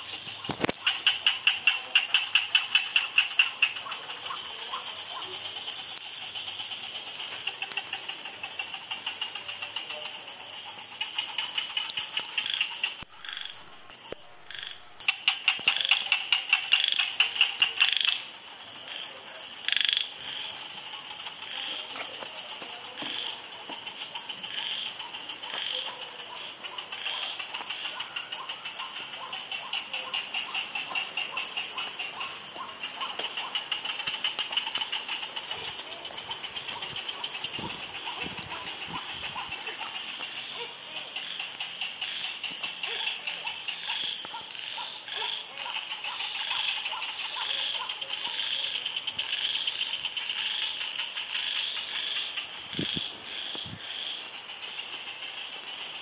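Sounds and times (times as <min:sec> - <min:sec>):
frogs calling: 0:00.0 - 0:56.0
insects trilling: 0:00.0 - 0:56.0.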